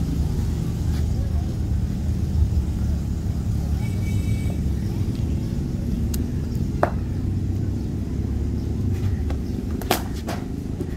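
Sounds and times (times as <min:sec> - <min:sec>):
low outdoor rumble: 0:00.0 - 0:10.9.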